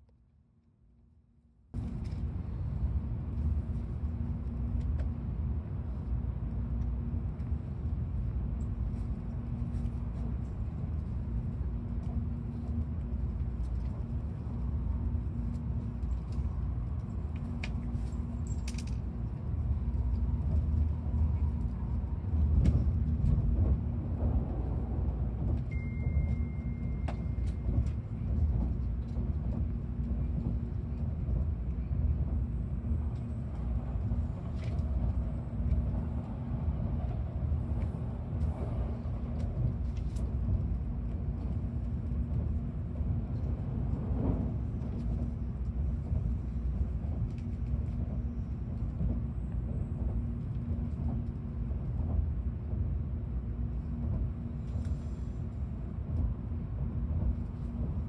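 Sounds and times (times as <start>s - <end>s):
train running rumble and hum: 1.7s - 58.0s.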